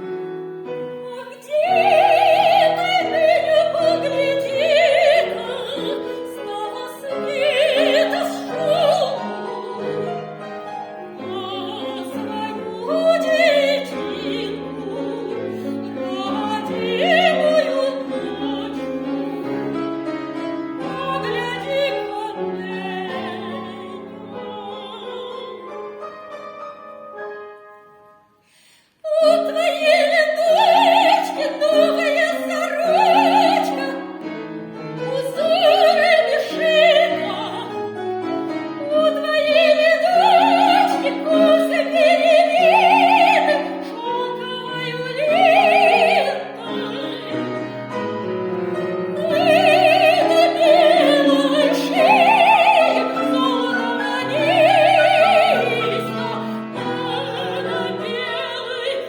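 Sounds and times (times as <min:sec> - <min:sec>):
soprano singing operatic aria: 0:00.0 - 0:26.3, 0:29.0 - 0:59.0
piano accompaniment: 0:00.0 - 0:59.0.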